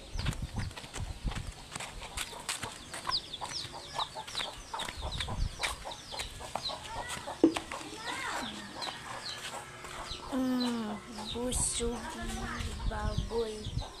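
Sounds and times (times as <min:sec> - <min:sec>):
chickens clucking and chirping: 0:00.0 - 0:14.0.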